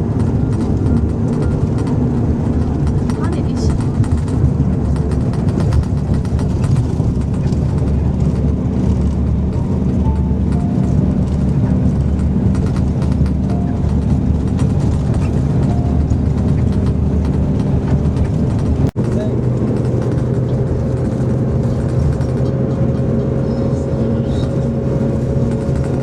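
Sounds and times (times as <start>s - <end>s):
vehicle interior rumble: 0.0s - 26.0s.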